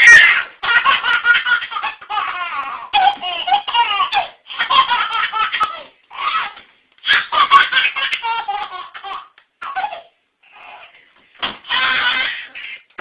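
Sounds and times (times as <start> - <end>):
baby belly-laughing: 0.0 - 13.0.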